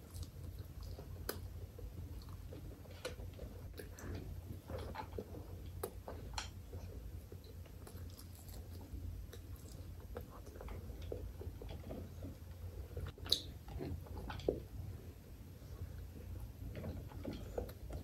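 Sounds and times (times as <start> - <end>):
person chewing food: 0.0 - 14.6.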